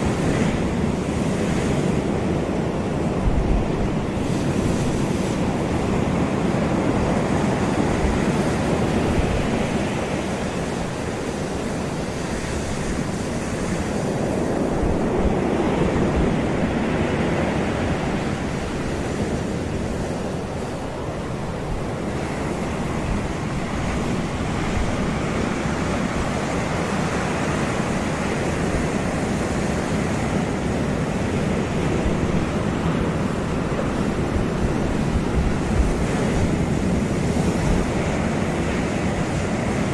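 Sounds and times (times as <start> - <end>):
ocean surf breaking: 0.0 - 39.9
wind rumbling on microphone: 0.0 - 39.9.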